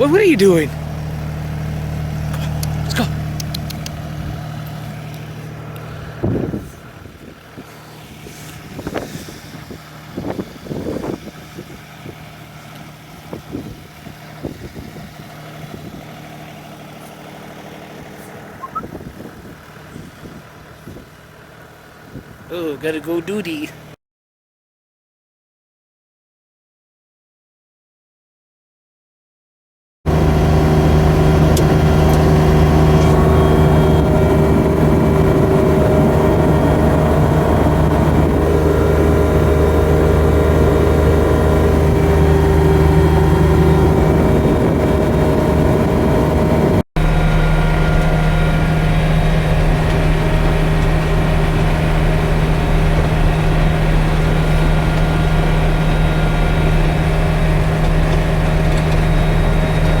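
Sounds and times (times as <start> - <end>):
tractor diesel engine running: 0.0 - 24.0, 30.1 - 60.0.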